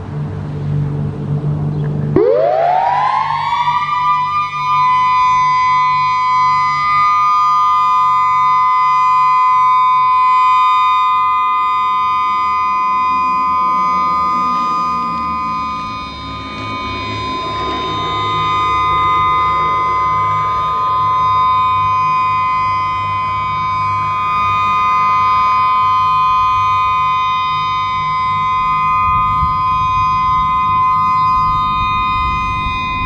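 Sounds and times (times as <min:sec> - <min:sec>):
low steady hum: 0:00.0 - 0:33.0
outdoor warning siren: 0:00.0 - 0:33.0.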